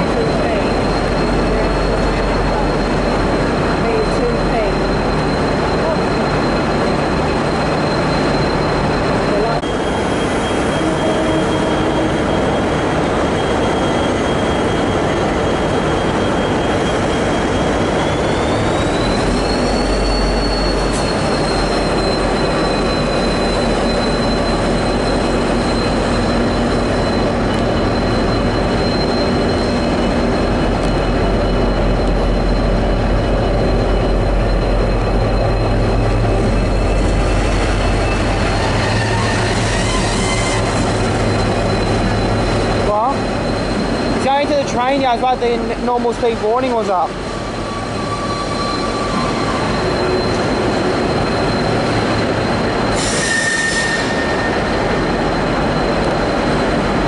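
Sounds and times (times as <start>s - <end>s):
diesel locomotive engine hum: 0.0s - 57.0s
high steady squeal: 0.0s - 57.0s.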